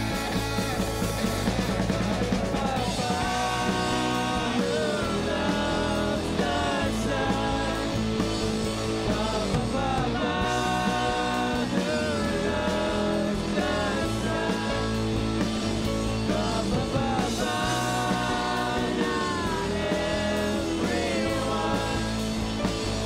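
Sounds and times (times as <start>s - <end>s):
rock band playing: 0.0s - 23.0s
man singing lead: 2.1s - 23.0s.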